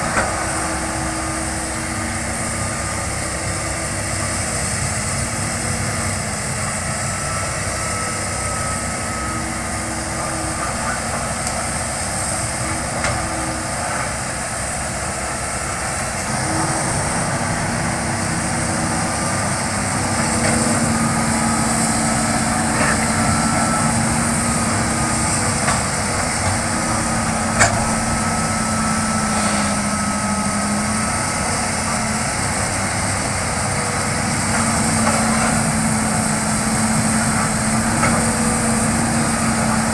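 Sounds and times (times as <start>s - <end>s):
excavator diesel engine running: 0.0s - 39.9s
hydraulic whine: 0.0s - 39.9s.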